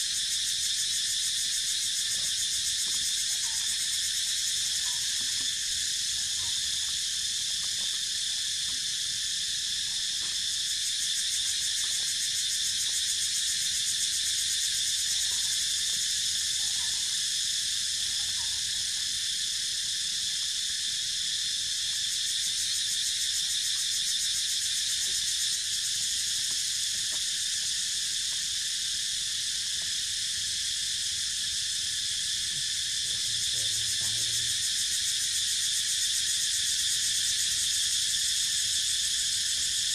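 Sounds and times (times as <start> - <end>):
chorus of insects: 0.0 - 39.9.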